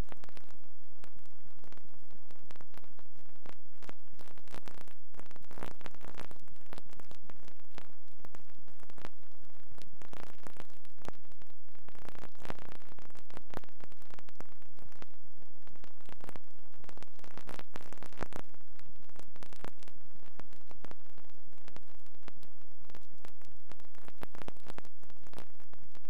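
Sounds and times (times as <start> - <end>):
static crackles: 0.0 - 26.0.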